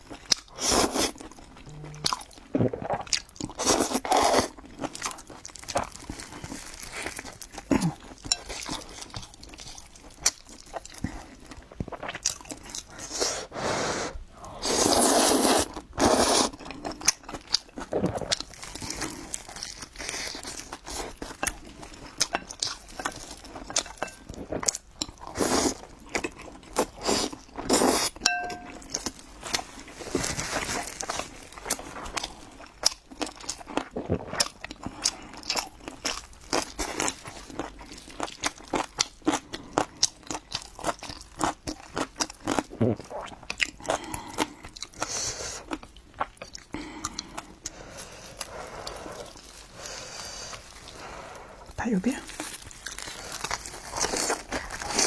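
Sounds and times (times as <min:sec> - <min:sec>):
crunchy chewing: 0:00.0 - 0:13.5, 0:14.6 - 0:55.0.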